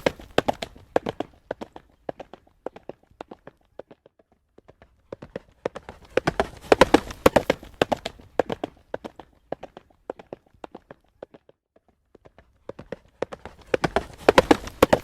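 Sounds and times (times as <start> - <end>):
horse hooves trotting on road: 0.0 - 15.0.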